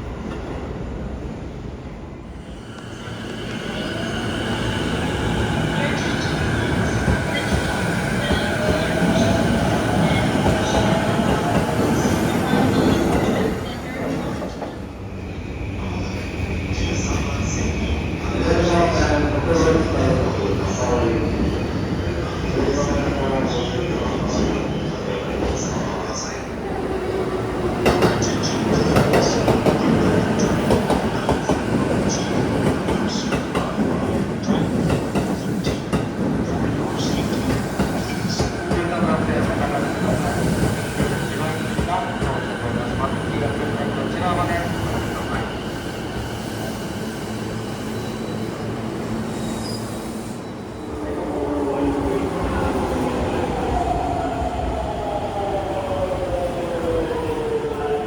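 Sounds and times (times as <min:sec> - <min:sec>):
train wheels rumbling on rails: 0:02.6 - 0:15.1, 0:15.8 - 0:58.0.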